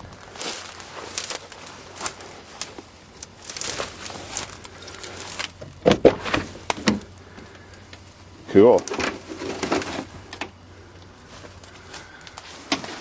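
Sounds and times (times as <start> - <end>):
faint clicks and rustles: 0.0 - 13.0.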